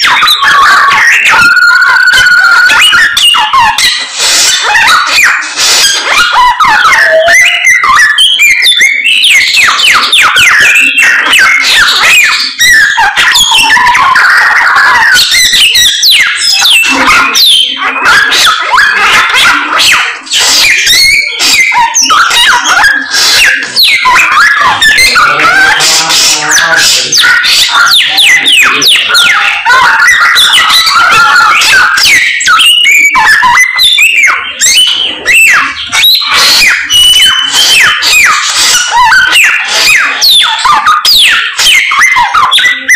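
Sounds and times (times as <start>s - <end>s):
songbird whistling and chattering: 0.0s - 42.9s.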